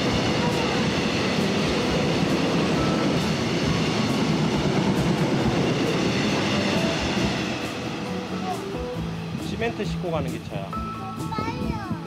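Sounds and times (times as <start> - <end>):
rumble of train wheels on rail: 0.0 - 10.7.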